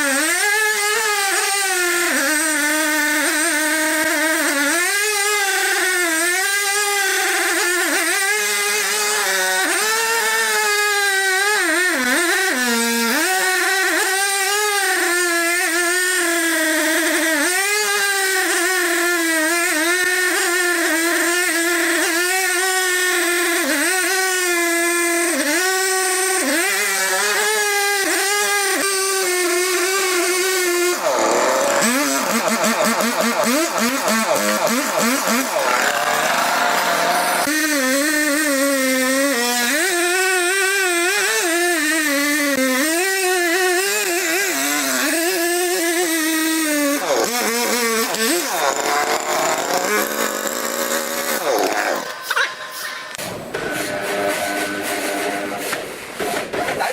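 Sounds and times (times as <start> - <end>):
engine-driven saw running: 0.0 - 56.9.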